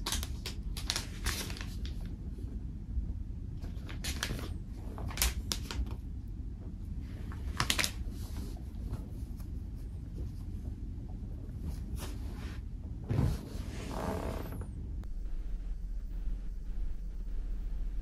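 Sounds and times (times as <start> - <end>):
low hum: 1.3 - 7.5, 8.3 - 18.0.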